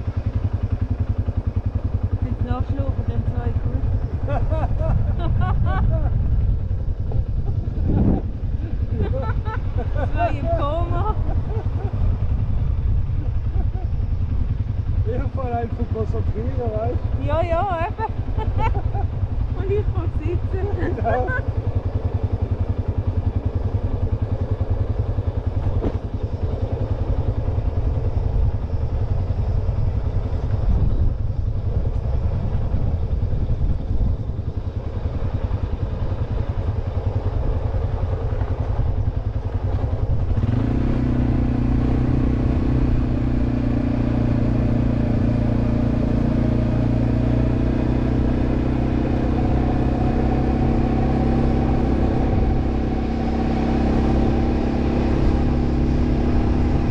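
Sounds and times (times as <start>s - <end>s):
quad bike engine rumble: 0.0s - 56.9s.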